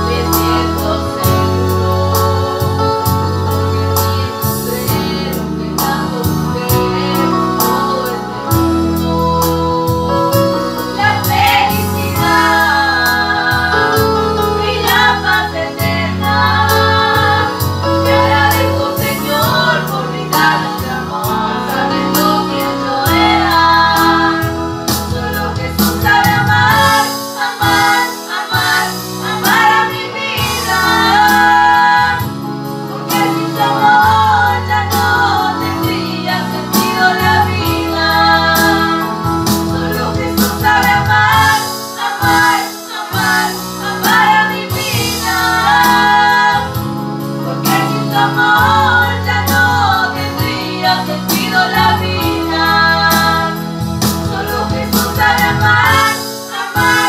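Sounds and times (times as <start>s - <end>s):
electronic keyboard accompaniment: 0.0s - 57.0s
women singing: 0.0s - 57.0s.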